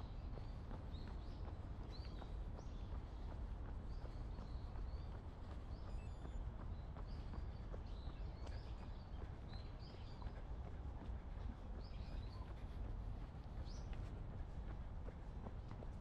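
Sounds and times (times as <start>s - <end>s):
small birds chirping: 0.1s - 15.9s.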